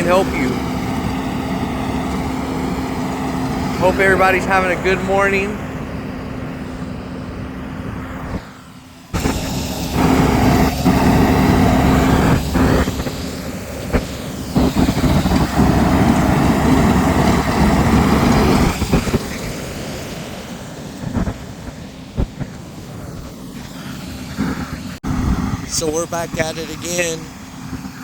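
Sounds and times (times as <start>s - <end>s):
heavy machine raking gravel: 0.0s - 7.6s, 9.1s - 25.0s.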